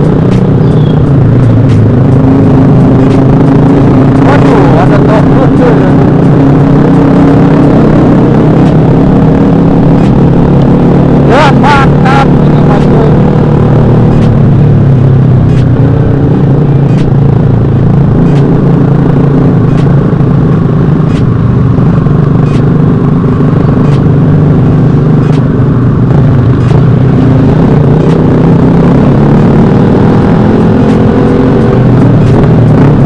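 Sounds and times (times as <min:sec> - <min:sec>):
motorcycle engine droning: 0:00.0 - 0:33.0.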